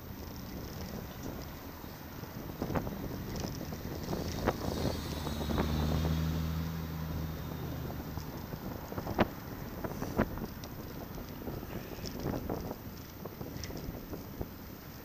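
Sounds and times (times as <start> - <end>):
vehicle engine hum: 0.0 - 15.0
wind on microphone: 0.1 - 14.9.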